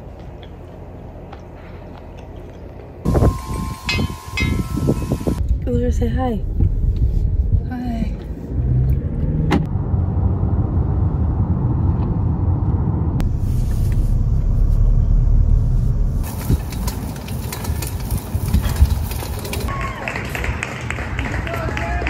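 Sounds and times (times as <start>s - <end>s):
car road and engine rumble: 0.0s - 19.7s
outdoor noise: 0.0s - 22.0s.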